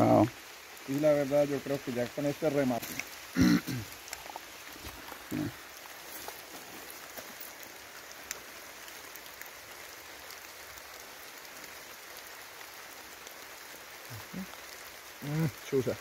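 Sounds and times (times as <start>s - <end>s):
steady hiss of water: 0.0s - 16.0s.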